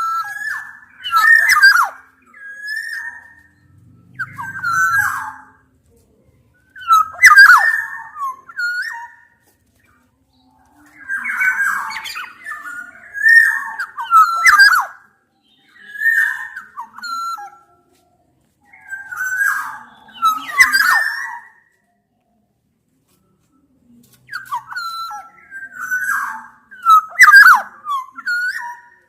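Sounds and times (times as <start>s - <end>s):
bird calls with whistles and squawks: 0.0s - 5.7s, 6.6s - 9.4s, 10.3s - 17.9s, 18.6s - 21.8s, 24.3s - 29.0s.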